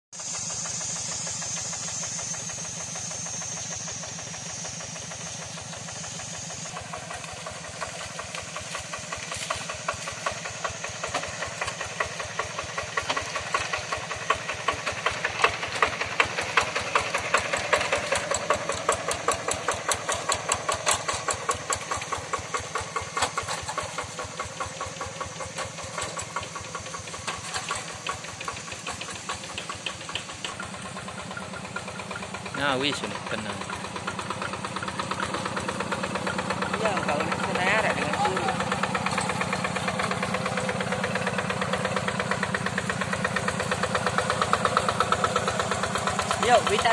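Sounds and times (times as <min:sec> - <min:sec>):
diesel engine chugging: 0:00.1 - 0:46.9.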